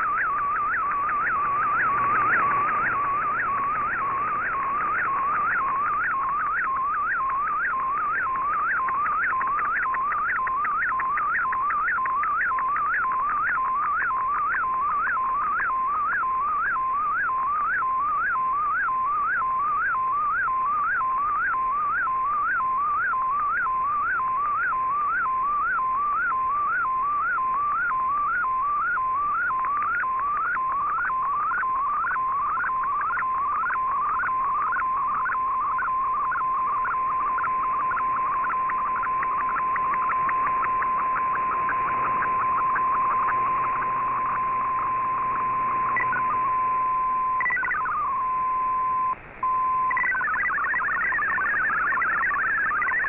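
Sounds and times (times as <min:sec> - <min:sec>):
warbling digital radio sweeps: 0:00.0 - 0:17.5, 0:27.8 - 0:53.0
hopping multi-tone data chatter: 0:00.0 - 0:53.0
steady radio tone: 0:00.0 - 0:53.0.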